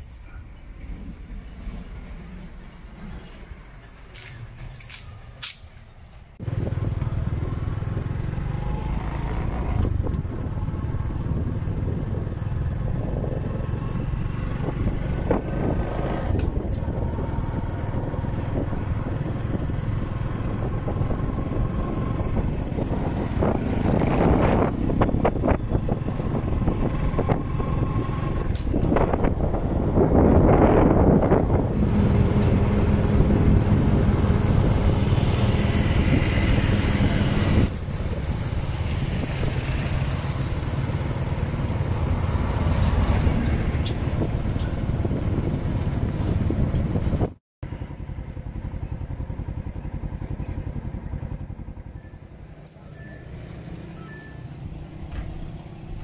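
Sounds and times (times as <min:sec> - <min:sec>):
other traffic: 0:00.0 - 0:56.0
motorcycle engine: 0:06.4 - 0:56.0.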